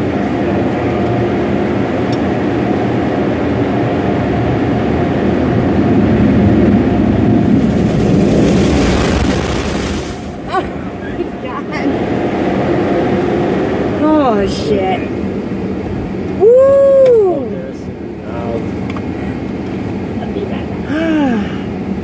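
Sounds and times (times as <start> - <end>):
car wash machinery rushing: 0.0 - 22.0.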